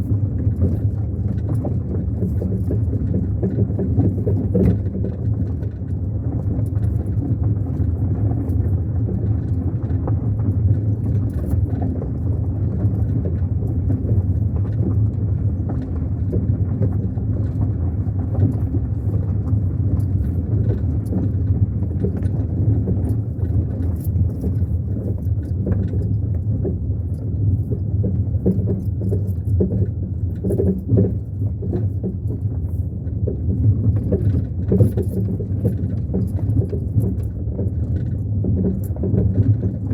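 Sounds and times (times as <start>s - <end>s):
car engine and road rumble: 0.0s - 39.9s
light rattles and ticks: 0.0s - 39.9s.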